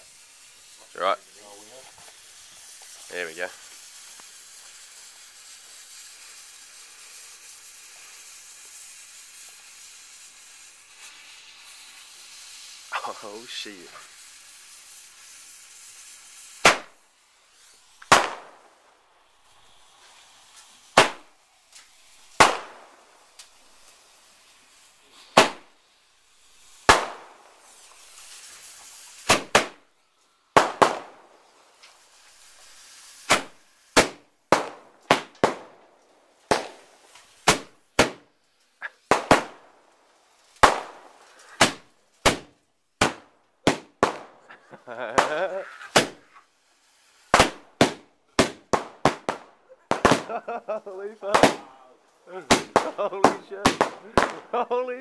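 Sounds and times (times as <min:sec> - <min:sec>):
firework bangs: 0:00.0 - 0:55.0.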